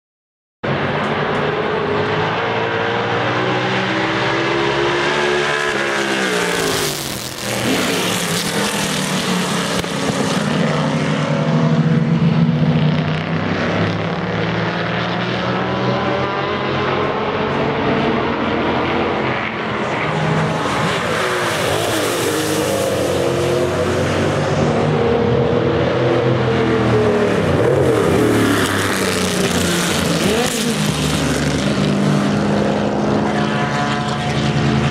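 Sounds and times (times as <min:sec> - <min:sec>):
racing cars passing: 0:00.7 - 0:34.9.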